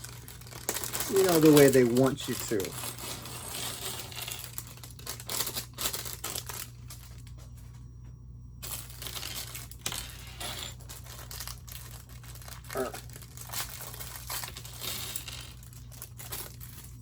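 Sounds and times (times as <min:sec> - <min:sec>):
plastic bag crinkling and tearing: 0:00.0 - 0:07.2, 0:08.6 - 0:17.0.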